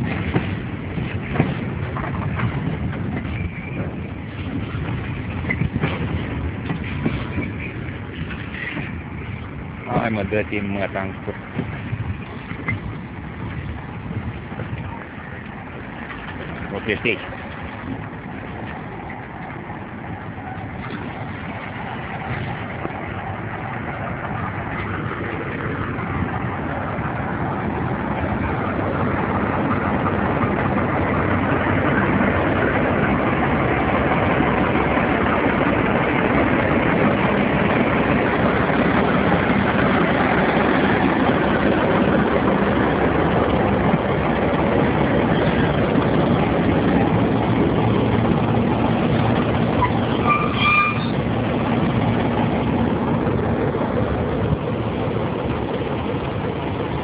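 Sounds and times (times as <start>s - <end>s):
locomotive engine droning: 0.0s - 57.0s.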